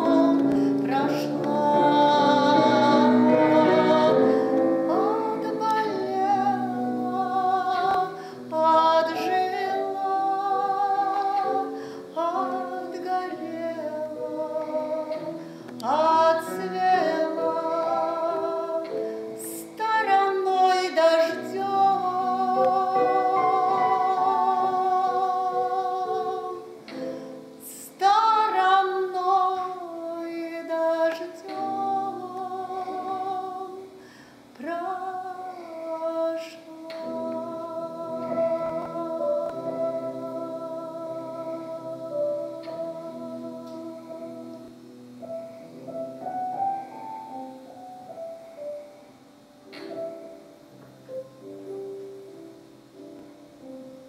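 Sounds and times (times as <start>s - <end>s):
woman singing with vibrato: 0.0s - 34.0s, 34.6s - 44.9s
digital piano: 0.0s - 54.0s.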